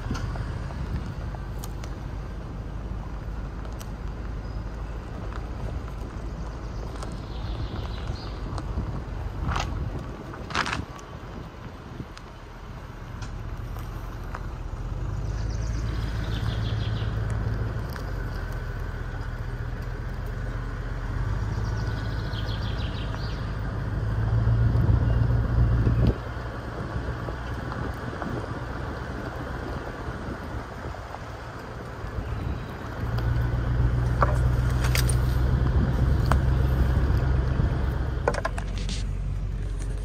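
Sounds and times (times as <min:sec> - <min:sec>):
car engine rumble: 0:00.0 - 0:40.0
tyre noise on dirt: 0:00.0 - 0:40.0.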